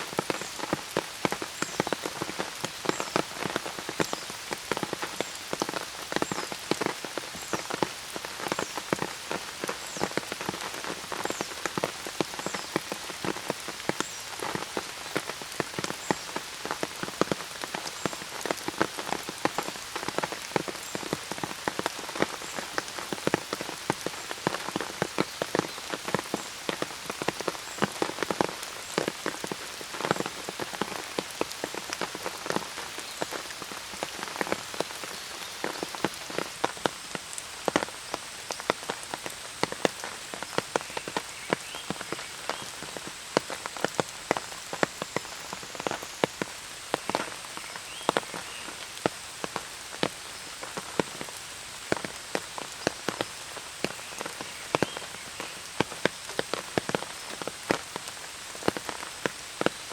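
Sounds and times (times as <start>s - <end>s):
rain drops tapping on umbrella: 0.0s - 59.9s.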